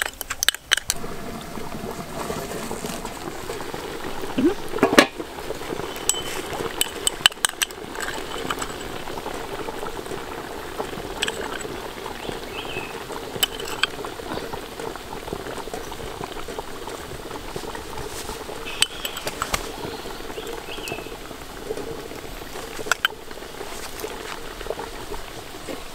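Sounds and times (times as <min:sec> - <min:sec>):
water boiling hard in a pot: 0:00.0 - 0:25.9.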